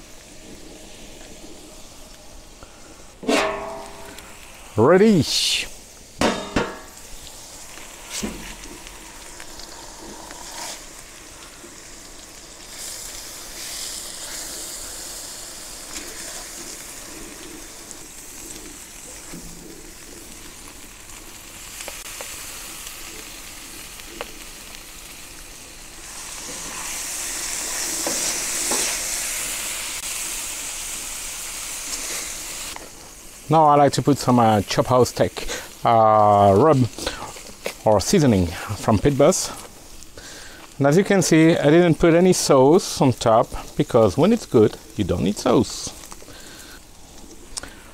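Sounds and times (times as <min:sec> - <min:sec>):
fat and onions sizzling on griddle: 0:00.0 - 0:47.9.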